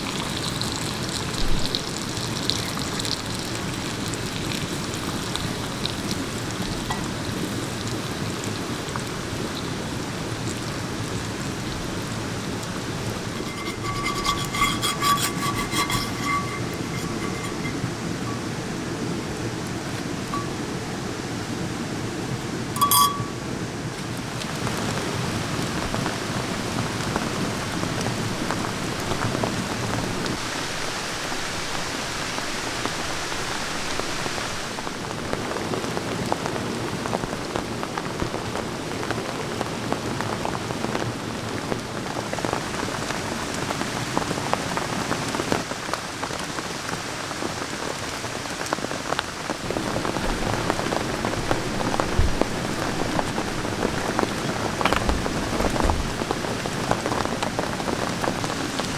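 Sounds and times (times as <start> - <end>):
steady rain falling: 0.0 - 13.4, 17.9 - 22.8, 23.4 - 58.9.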